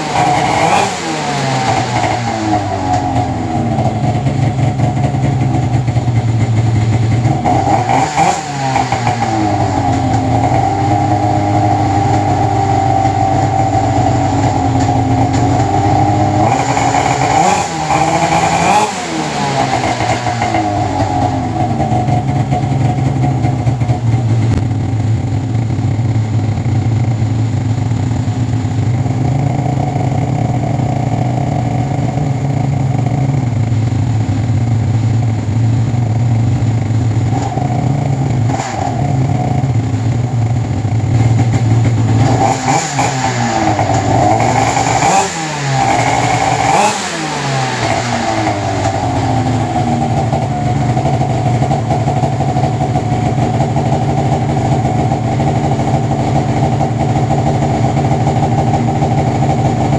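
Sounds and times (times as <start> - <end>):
two-stroke engine idling and revving: 0.0 - 59.9.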